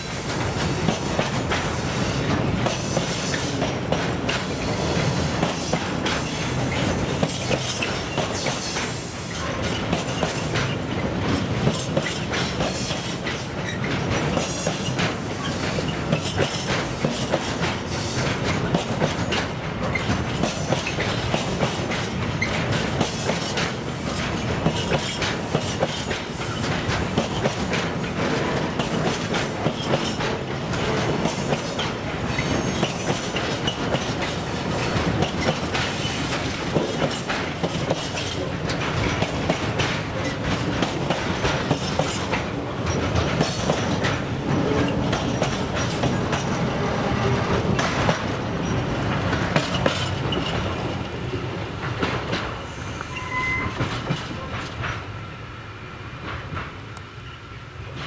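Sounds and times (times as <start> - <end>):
train wheels clattering over rail joints: 0.0 - 52.7, 53.7 - 55.1.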